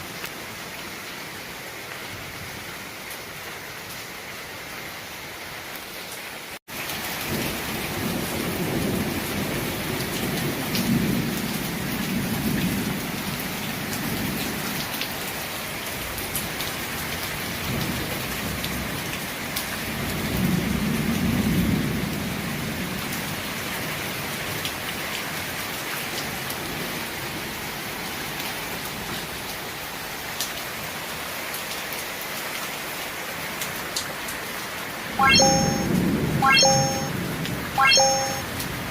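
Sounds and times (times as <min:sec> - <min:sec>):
heavy rain falling: 0:00.0 - 0:35.2.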